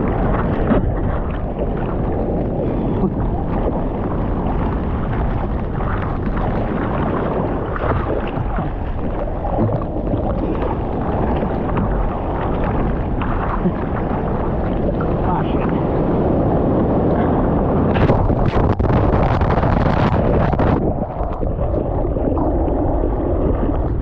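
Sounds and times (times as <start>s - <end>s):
water rushing: 0.0s - 24.0s
wind buffeting microphone: 0.0s - 24.0s.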